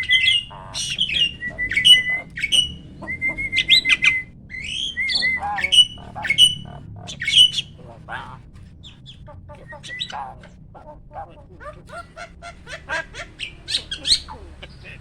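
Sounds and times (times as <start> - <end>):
starling singing: 0.0 - 15.0.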